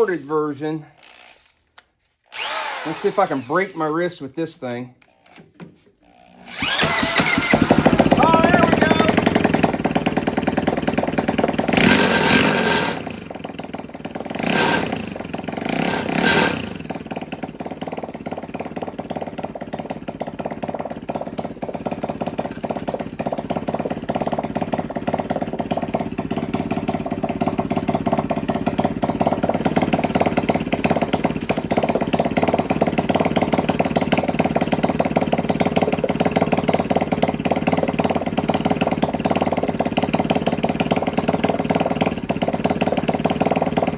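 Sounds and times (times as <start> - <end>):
single-cylinder engine revving and idling: 2.4 - 3.7, 6.4 - 43.9.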